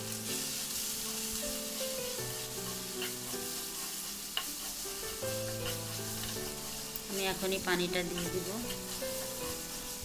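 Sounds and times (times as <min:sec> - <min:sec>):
chicken sizzling in hot oil: 0:00.0 - 0:10.0
soft background music: 0:00.0 - 0:10.0.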